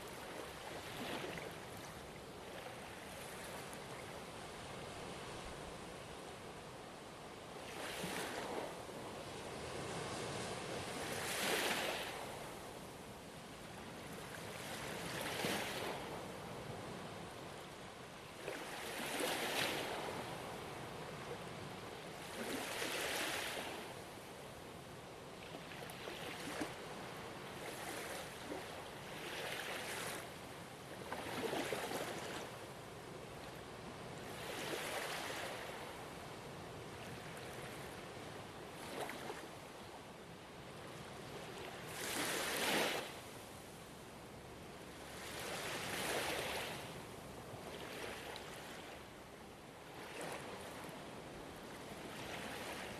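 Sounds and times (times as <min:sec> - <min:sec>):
ocean waves washing ashore: 0:00.0 - 0:24.6, 0:25.4 - 0:39.9, 0:40.5 - 0:52.9.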